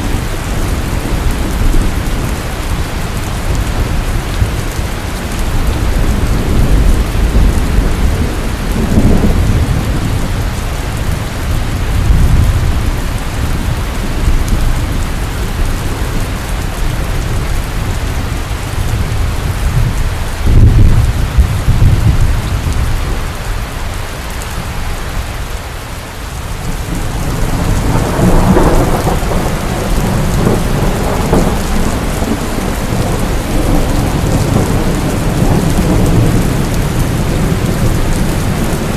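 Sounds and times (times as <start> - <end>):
thunder rumbling: 0.0 - 23.6, 26.4 - 38.9
heavy rain pouring: 0.0 - 38.9.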